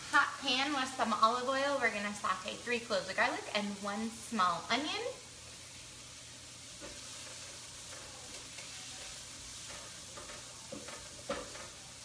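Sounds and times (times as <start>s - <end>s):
garlic and onion sizzling in oil: 0.0s - 12.0s.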